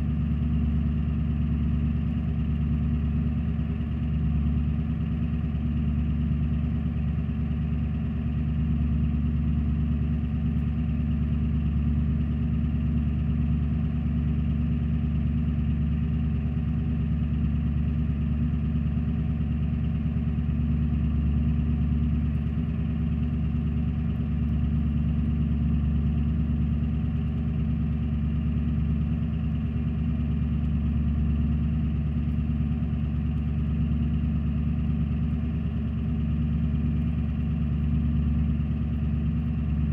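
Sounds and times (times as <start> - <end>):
diesel van engine idling: 0.0 - 39.9.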